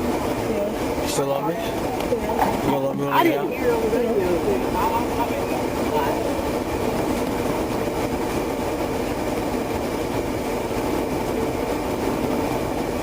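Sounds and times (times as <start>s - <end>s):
car cabin hum and rush: 0.0s - 13.0s.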